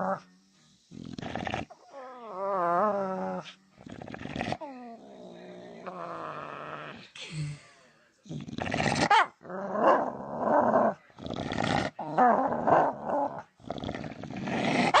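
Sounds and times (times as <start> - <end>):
dog growling and warbling: 0.0 - 7.1, 8.3 - 15.0.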